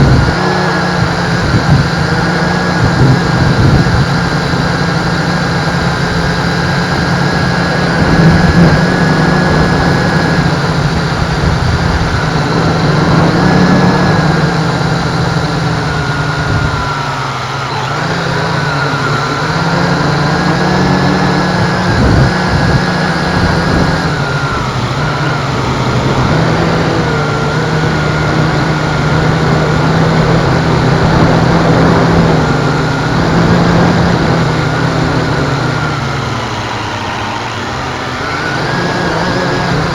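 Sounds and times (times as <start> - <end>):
drone propellers whirring: 0.0 - 39.9
wind buffeting microphone: 0.0 - 39.9.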